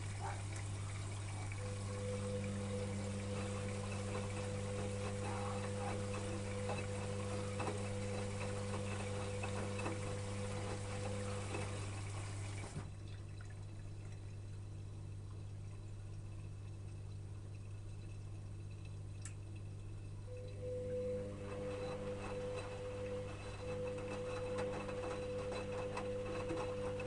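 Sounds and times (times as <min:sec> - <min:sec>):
faint low hum: 0:00.0 - 0:27.0
washing machine water rushing: 0:00.0 - 0:27.0.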